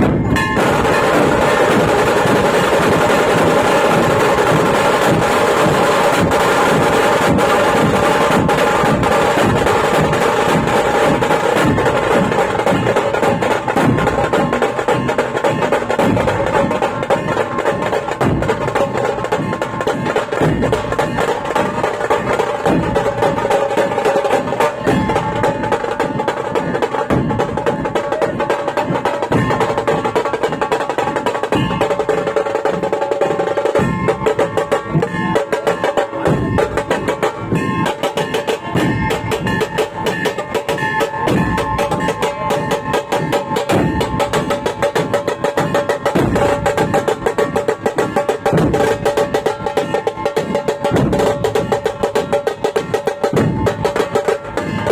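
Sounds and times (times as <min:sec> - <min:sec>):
drum roll: 0:00.0 - 0:54.9.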